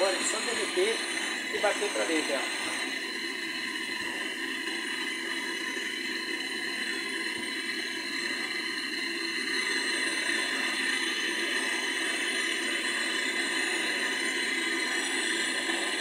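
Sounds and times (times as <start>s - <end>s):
gas torch flame burning: 0.0s - 16.0s.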